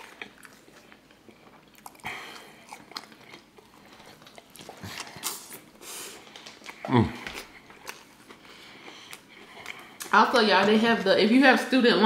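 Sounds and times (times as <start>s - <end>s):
person chewing crunchy food: 0.0s - 10.8s.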